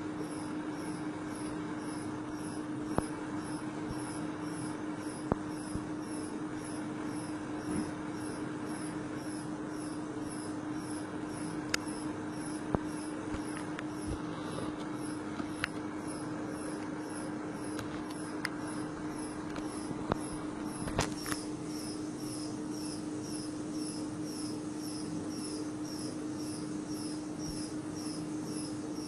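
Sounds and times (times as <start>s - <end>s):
testing machine hum: 0.0s - 29.0s.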